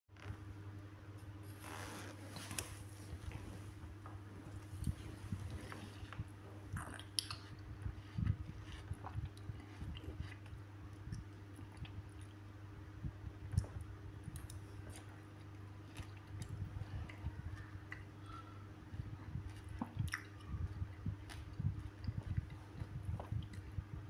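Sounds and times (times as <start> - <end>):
low hum: 0.2 - 24.0
chewing juicy fruit: 4.5 - 24.0.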